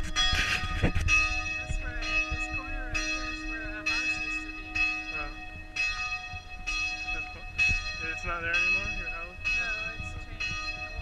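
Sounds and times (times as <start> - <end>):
bell ringing: 0.0 - 11.0.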